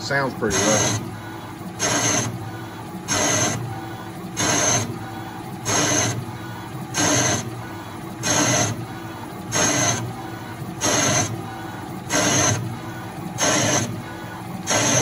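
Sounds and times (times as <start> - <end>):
machine running steadily: 0.0 - 15.0
lathe tool scraping steel: 0.2 - 6.3, 6.9 - 7.5, 8.2 - 10.2, 10.8 - 11.4, 12.1 - 15.0.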